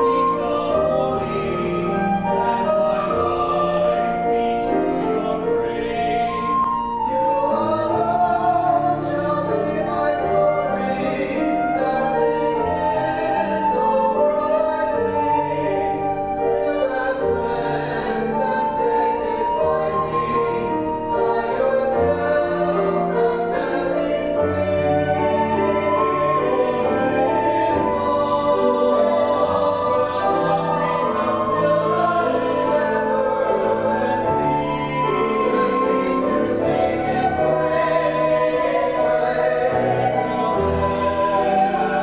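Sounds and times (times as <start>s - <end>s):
flute: 0.0s - 42.0s
grand piano: 0.0s - 42.0s
group singing a hymn in harmony: 0.0s - 42.0s.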